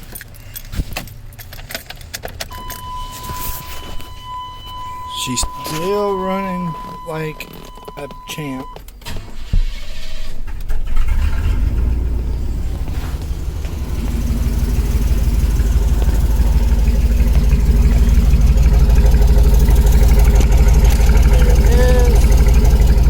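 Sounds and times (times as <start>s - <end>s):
pickup truck engine idling: 2.5s - 23.0s.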